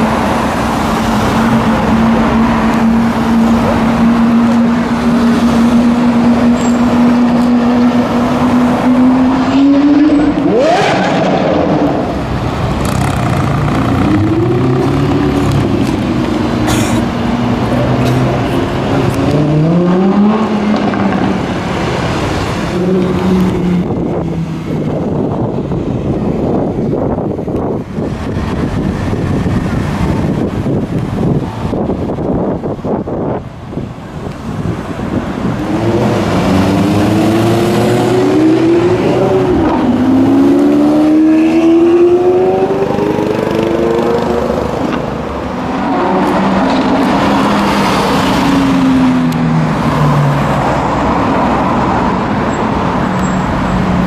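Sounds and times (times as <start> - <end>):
sports car engines accelerating: 0.0 - 54.0.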